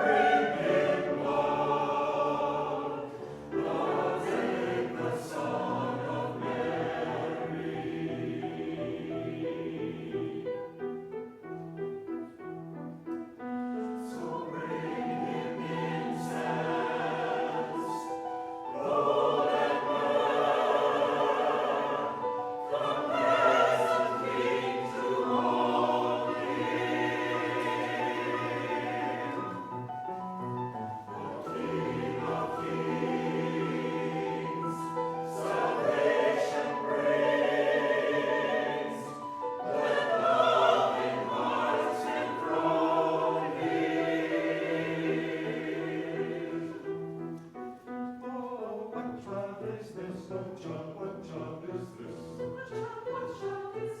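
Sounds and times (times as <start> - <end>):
choir singing in parts: 0.0 - 11.0, 13.8 - 54.0.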